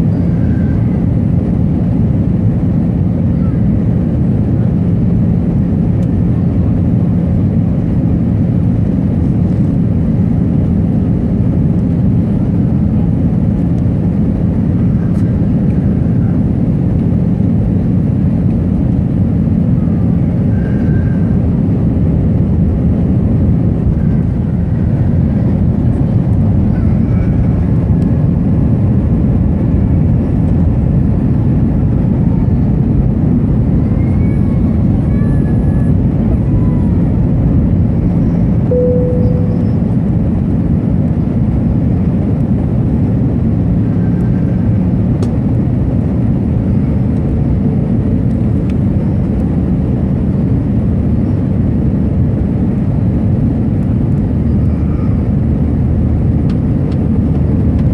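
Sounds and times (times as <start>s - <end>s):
aircraft cabin engine roar: 0.0s - 57.9s
steady low hum: 0.0s - 57.9s.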